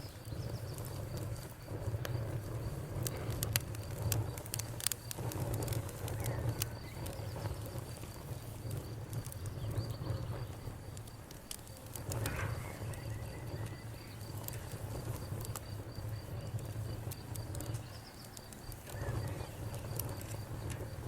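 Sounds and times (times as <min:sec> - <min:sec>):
campfire crackling and popping: 0:00.0 - 0:21.0
insect chirping: 0:00.0 - 0:21.0
low rumble of burning fire: 0:00.0 - 0:21.0.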